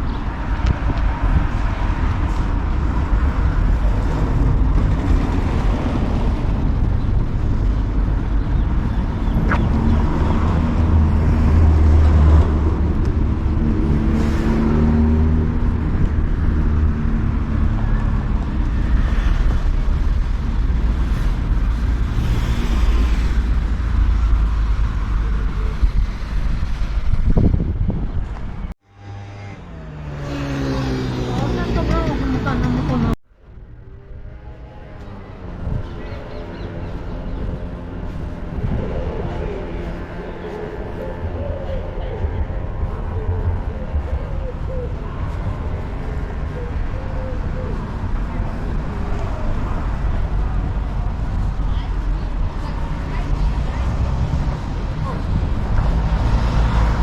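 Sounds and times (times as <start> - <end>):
motor vehicle rumble: 0.0 - 57.0.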